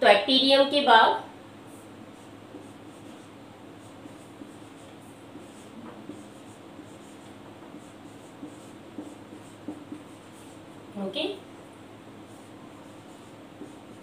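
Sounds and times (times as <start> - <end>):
low room hum: 0.0 - 14.0
marker writing on whiteboard: 1.7 - 10.8, 11.4 - 14.0.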